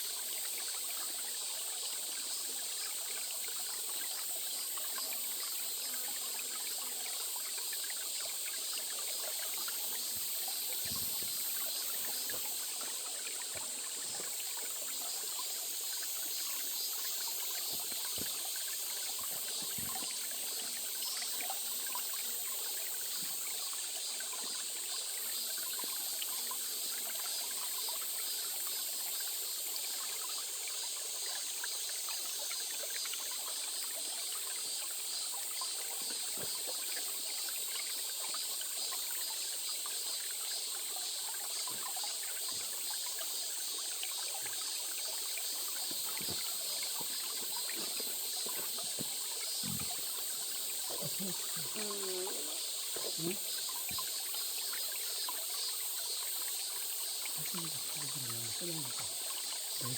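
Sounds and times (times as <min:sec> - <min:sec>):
stream trickling: 0:00.0 - 0:59.9
high-pitched hiss: 0:02.4 - 0:59.9.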